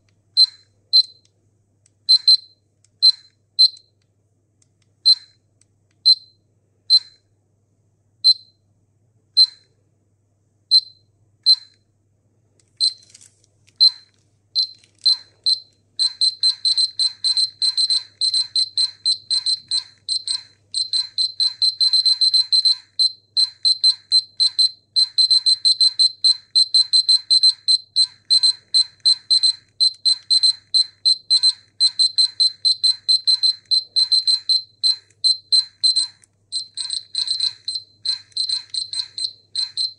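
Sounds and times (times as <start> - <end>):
dosimeter high-pitched beeps: 0.4 - 1.3, 2.1 - 3.9, 5.1 - 5.4, 6.0 - 7.2, 8.2 - 8.6, 9.4 - 9.7, 10.7 - 11.8, 12.8 - 13.0, 13.8 - 39.9.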